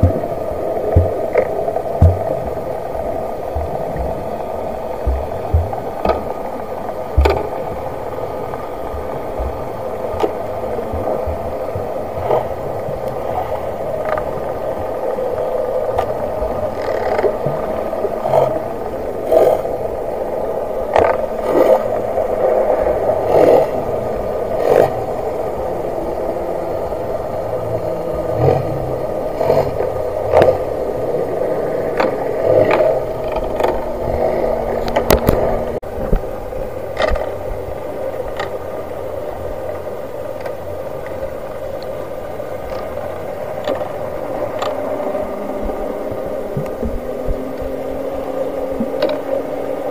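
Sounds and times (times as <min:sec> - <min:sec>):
faint low wavering drone: 0:00.0 - 0:49.9
muffled underwater water rush: 0:00.0 - 0:49.9.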